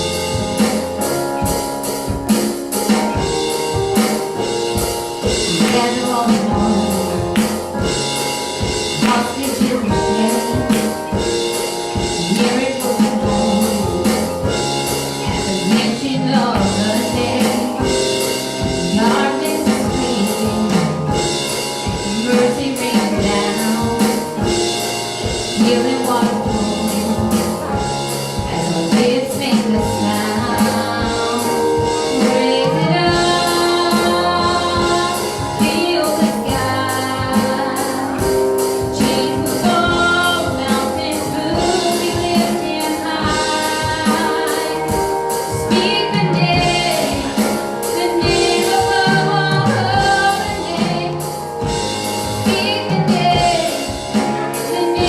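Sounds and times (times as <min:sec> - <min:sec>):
worship band playing: 0:00.0 - 0:55.0
people singing: 0:04.0 - 0:55.0.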